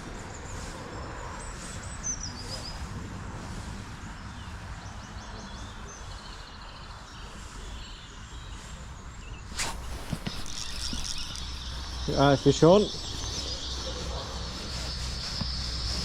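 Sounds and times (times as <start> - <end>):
small birds chirping and trilling: 0.0 - 16.0.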